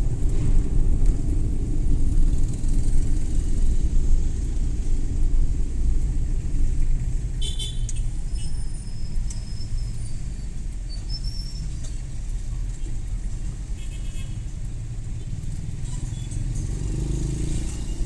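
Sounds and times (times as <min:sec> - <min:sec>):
van engine and road rumble: 0:00.0 - 0:18.0.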